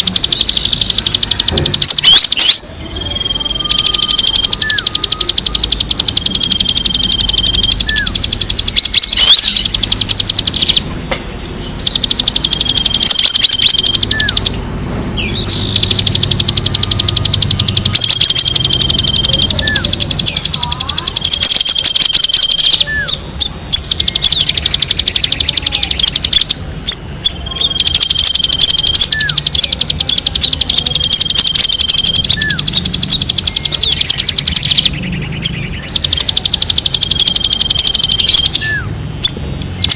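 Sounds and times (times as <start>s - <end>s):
rapid high-pitched bird trill: 0.0s - 39.9s.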